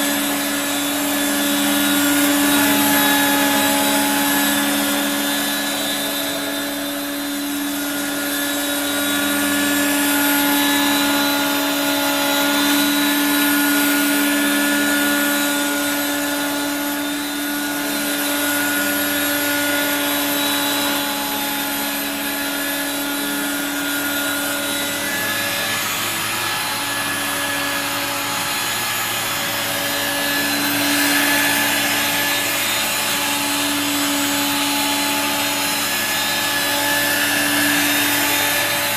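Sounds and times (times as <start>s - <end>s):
stick vacuum motor whine: 0.0s - 38.9s.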